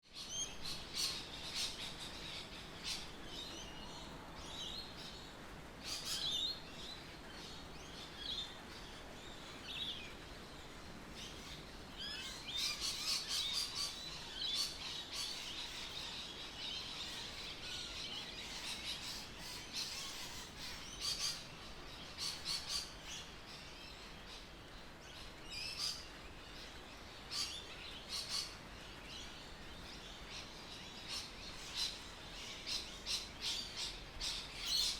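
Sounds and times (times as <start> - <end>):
faint background hiss: 0.0 - 34.9.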